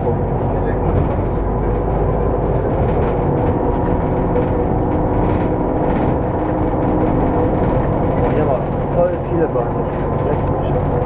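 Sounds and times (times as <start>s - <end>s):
bus engine idling hum: 0.0s - 11.0s
steady tones: 0.0s - 11.0s.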